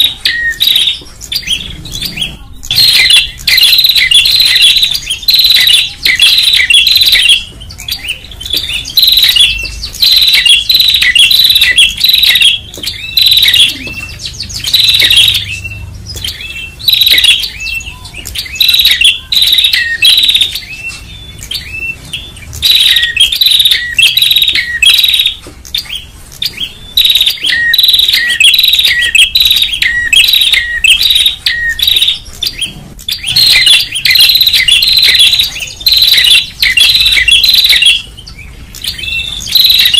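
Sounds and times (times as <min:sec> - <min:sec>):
birds chirping sharply: 0:00.0 - 0:39.9.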